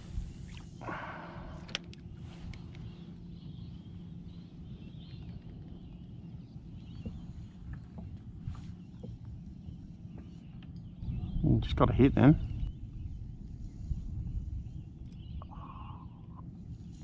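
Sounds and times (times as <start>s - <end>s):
steady low background hum: 0.0s - 17.0s
faint bird calls: 0.3s - 17.0s.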